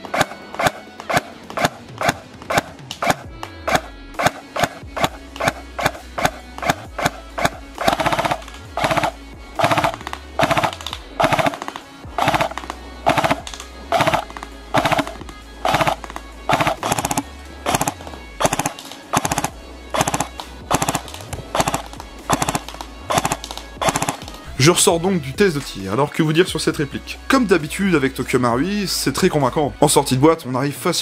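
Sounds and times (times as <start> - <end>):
punchy beat music: 0.1 - 25.8.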